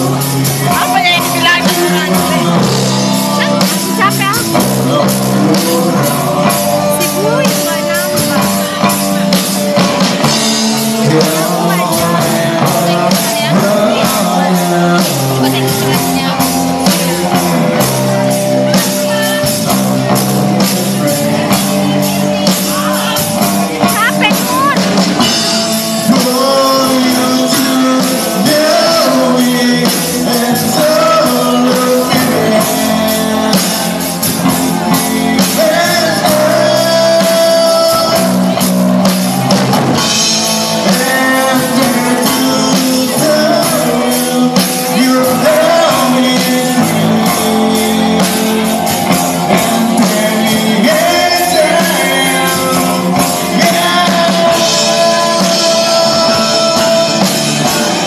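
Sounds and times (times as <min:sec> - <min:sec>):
drums: 0:00.0 - 0:58.0
guitar: 0:00.0 - 0:58.0
person singing: 0:00.0 - 0:58.0.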